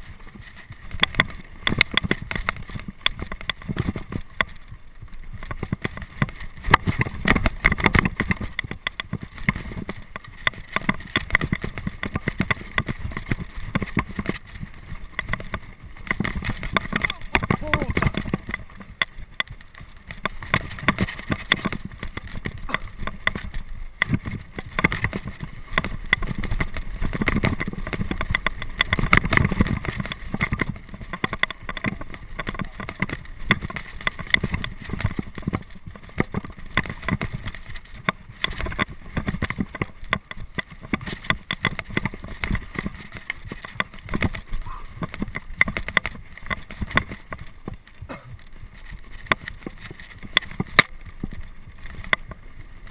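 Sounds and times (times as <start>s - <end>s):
mountain bike rattling over terrain: 0.0s - 52.9s.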